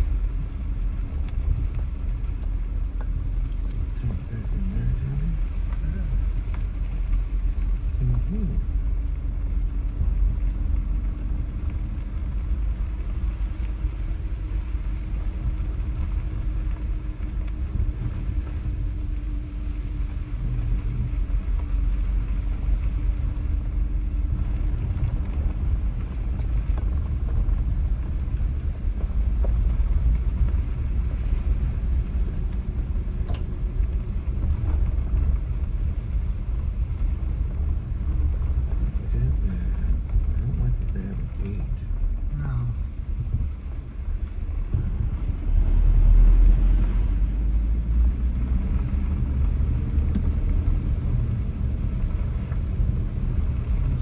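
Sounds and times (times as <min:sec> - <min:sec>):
faint hum: 0:00.0 - 0:45.8
car engine and road rumble: 0:00.0 - 0:54.0.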